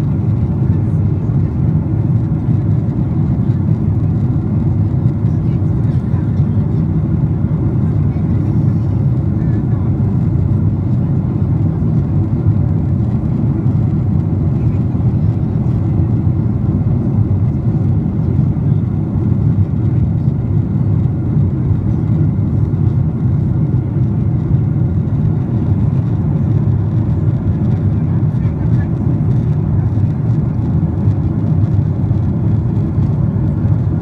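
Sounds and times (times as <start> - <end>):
airliner cabin drone: 0.0 - 34.0.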